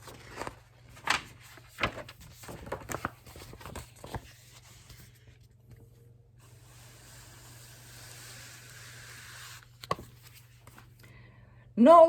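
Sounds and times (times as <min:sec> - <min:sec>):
book pages turning: 0:00.0 - 0:11.0.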